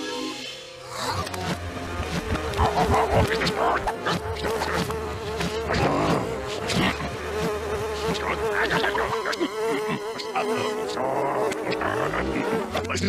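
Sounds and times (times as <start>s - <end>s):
fly buzzing: 0.7s - 13.0s.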